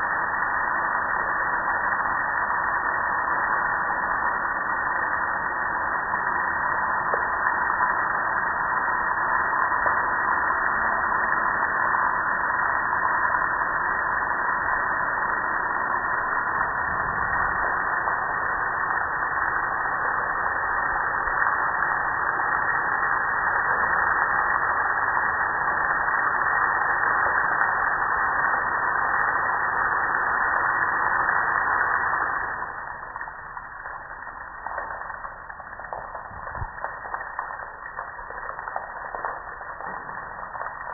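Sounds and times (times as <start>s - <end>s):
water dripping and running: 0.0s - 40.9s.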